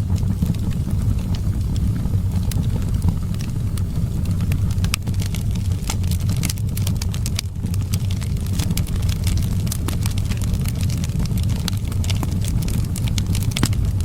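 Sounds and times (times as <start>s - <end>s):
low rumble of wind: 0.0s - 14.0s
wood fire crackling and popping: 0.0s - 14.0s.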